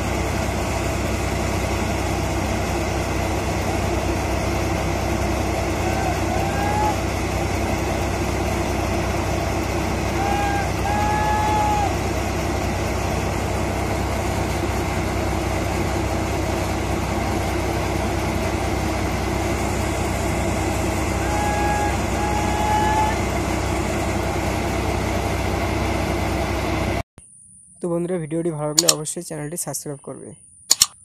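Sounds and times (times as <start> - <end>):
thresher machine drone: 0.0 - 27.0.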